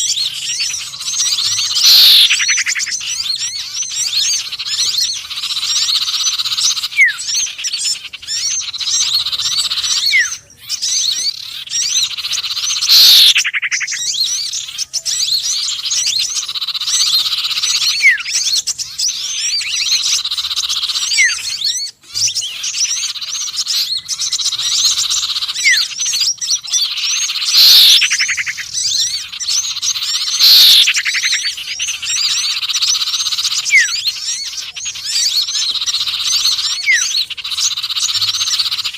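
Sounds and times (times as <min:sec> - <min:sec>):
loud downward-sweeping bird calls: 0:00.0 - 0:38.9
songbird chirping chatter: 0:00.0 - 0:38.9.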